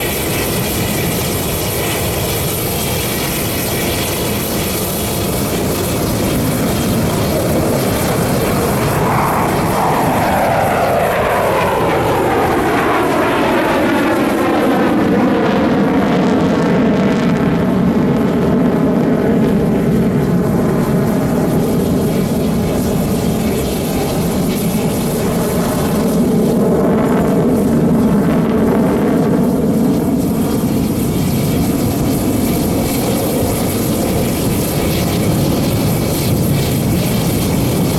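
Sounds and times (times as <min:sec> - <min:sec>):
fighter jets flying past: 0:00.0 - 0:37.9
jet whine sweeping downward: 0:00.0 - 0:37.9.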